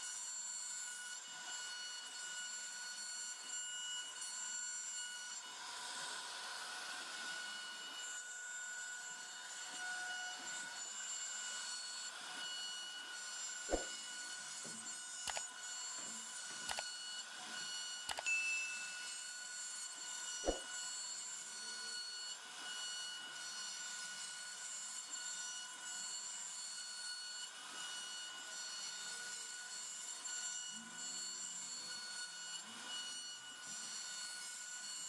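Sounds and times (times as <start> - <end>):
router spindle whining: 0.0 - 35.0.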